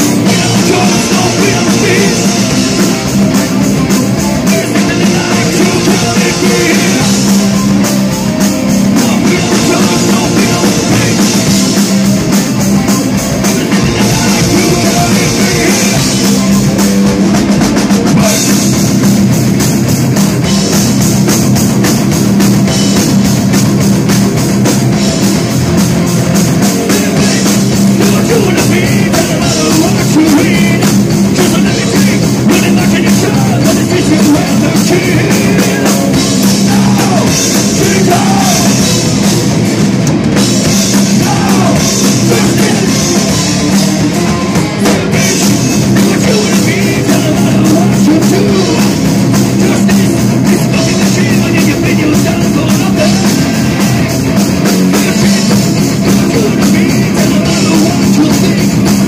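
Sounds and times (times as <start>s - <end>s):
drum kit: 0.0s - 59.0s
electric guitars: 0.0s - 59.0s
metal band playing live: 0.0s - 59.0s.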